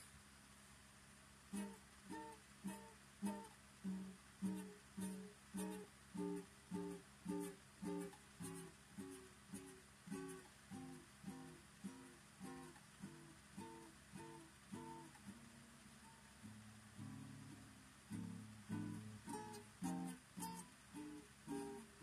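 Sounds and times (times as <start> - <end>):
faint hiss: 0.0 - 22.0
guitar chords strummed: 1.5 - 22.0.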